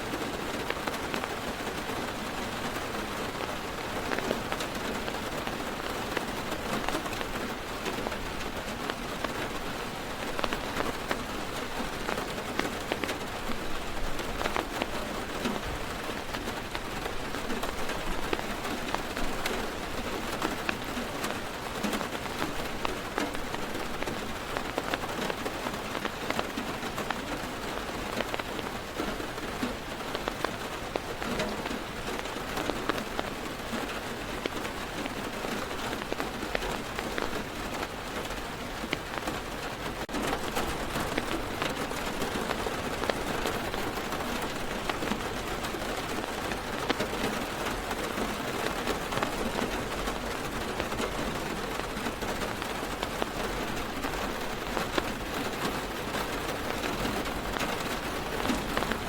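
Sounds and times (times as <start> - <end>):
heavy rain on car roof: 0.0 - 59.0.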